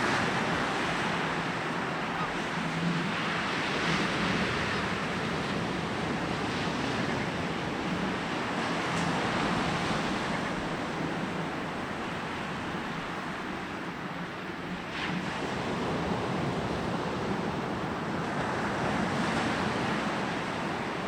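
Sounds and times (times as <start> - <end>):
sea waves washing onto beach: 0.0 - 21.0.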